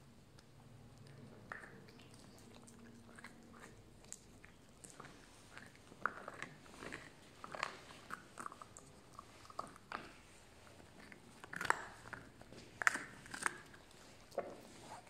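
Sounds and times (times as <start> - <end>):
puppy crunching on bone: 0.4 - 15.0.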